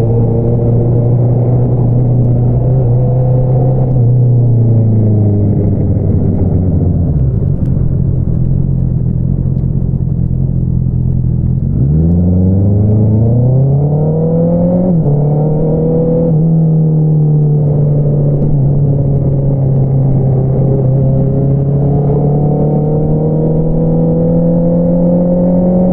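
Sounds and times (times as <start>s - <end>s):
motorcycle engine: 0.0s - 25.9s.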